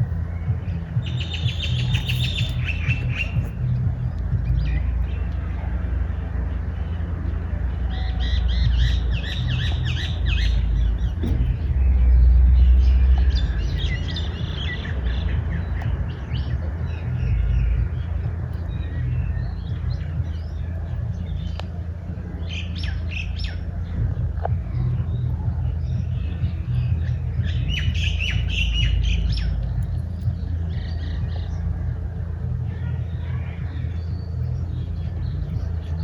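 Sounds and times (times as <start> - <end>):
low rumble: 0.0 - 7.6, 8.6 - 36.0
small birds chirping: 0.0 - 36.0.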